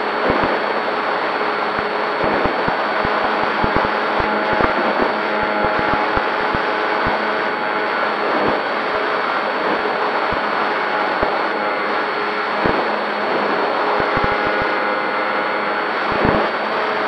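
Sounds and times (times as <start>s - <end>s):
rush of airflow: 0.0s - 14.8s
electric motor and propeller hum: 0.0s - 17.0s.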